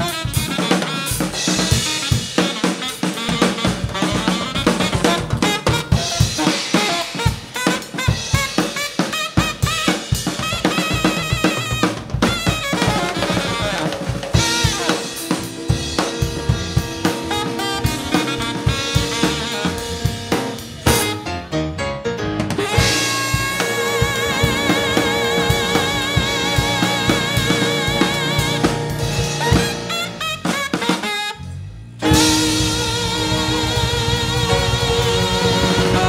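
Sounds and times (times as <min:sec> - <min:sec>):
electric bass: 0:00.0 - 0:08.6, 0:11.8 - 0:36.0
alto saxophone: 0:00.0 - 0:21.8, 0:22.6 - 0:36.0
drum kit: 0:00.0 - 0:36.0.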